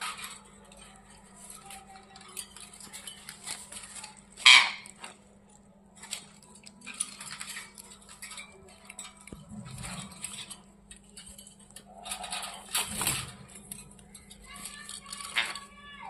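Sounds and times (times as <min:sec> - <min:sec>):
parrot beak and feet tapping bars: 0:00.0 - 0:16.0.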